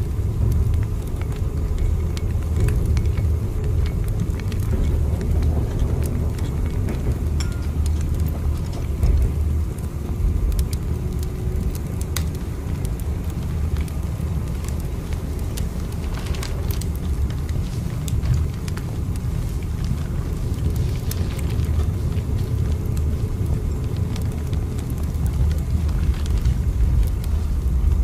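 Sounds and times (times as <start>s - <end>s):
sharp crackling ticks: 0.0s - 28.0s
train rumbling: 0.0s - 28.0s.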